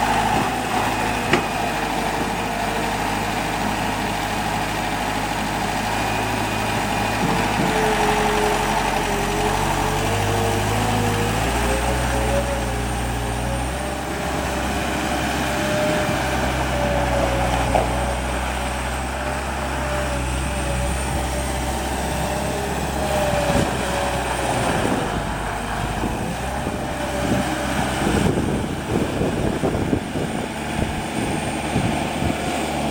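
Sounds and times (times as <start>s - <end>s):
skid steer engine revving: 0.0s - 32.9s.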